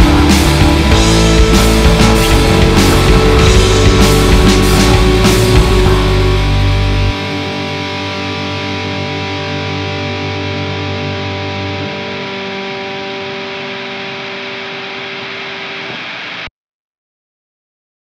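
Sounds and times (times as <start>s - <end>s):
distorted electric guitar chord: 0.0s - 16.5s.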